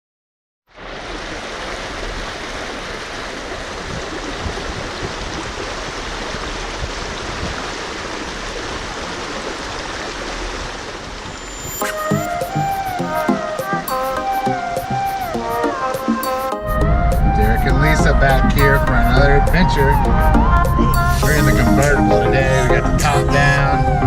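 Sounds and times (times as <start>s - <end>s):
creek water rushing: 0.7s - 24.0s.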